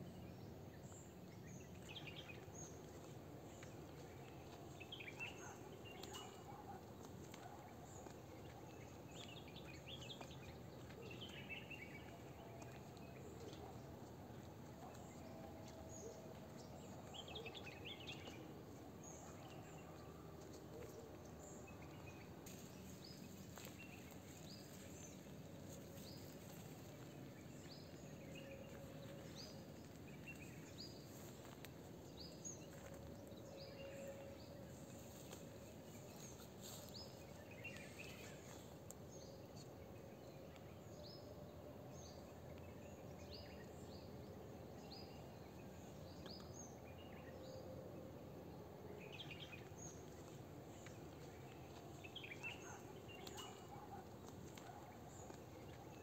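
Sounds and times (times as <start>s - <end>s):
low steady outdoor hiss: 0.0s - 6.0s, 6.9s - 56.0s.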